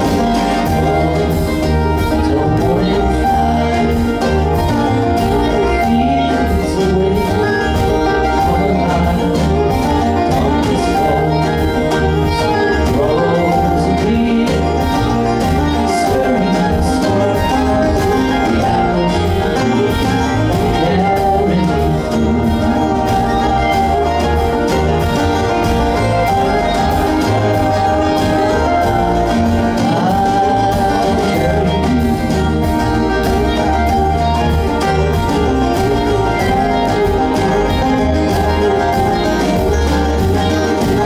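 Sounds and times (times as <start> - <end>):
fiddle: 0.0 - 41.0
mandolin: 0.0 - 41.0
picked banjo: 0.0 - 41.0
strummed acoustic guitar: 0.0 - 41.0
upright bass: 0.0 - 41.0.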